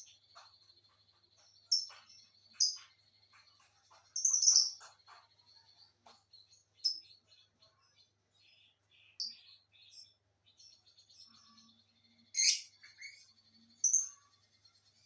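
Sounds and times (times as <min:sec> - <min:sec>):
lovebirds chirping and chattering: 0:00.0 - 0:15.0.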